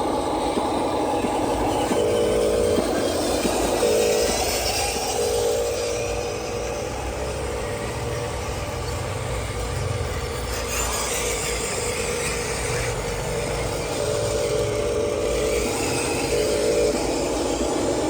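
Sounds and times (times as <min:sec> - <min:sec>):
model trucks whining drone: 0:00.0 - 0:18.0.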